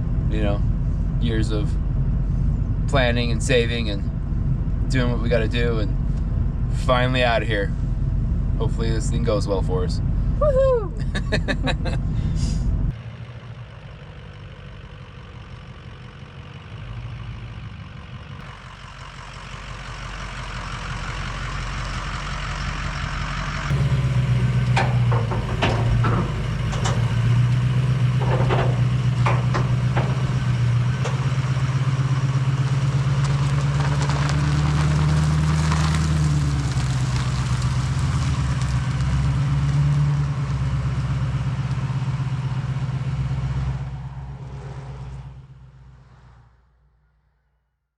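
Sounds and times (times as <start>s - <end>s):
vehicle engine running: 0.0s - 46.4s.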